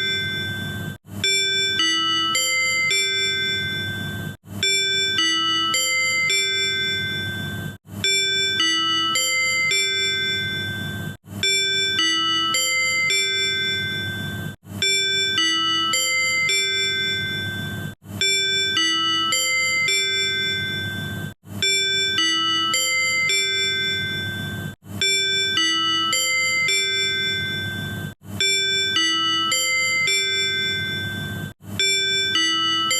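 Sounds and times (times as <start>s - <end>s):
ding-dong chime: 0.0s - 32.9s.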